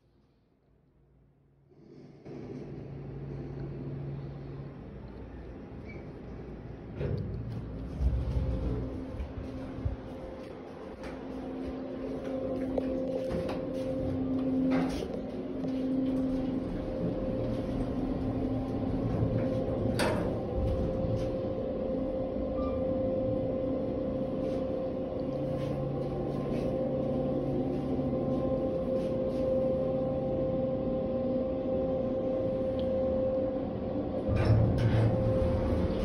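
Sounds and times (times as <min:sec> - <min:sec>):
elevator humming and whining: 0:01.0 - 0:36.0.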